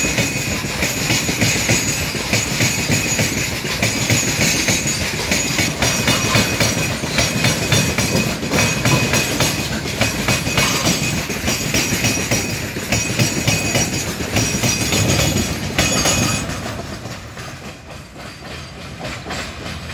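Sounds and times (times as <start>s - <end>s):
high metallic wheel squeal: 0.0s - 16.6s
wheels clattering over rail joints: 0.0s - 19.9s.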